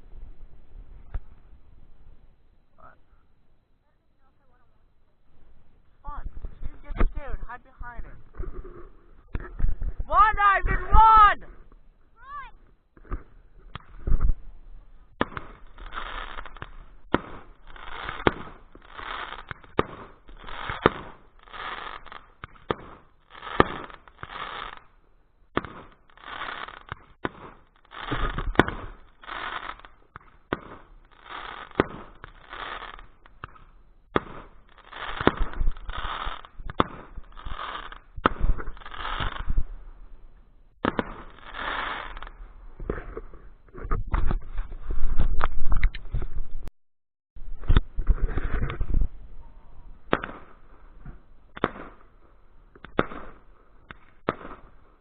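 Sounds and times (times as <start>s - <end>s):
fireworks sharp pops: 1.0s - 1.5s, 6.2s - 7.6s, 8.2s - 11.9s, 12.5s - 39.9s, 40.8s - 46.6s, 47.6s - 49.2s, 50.0s - 55.0s
fireworks crackling bursts: 5.4s - 44.8s, 50.0s - 55.0s.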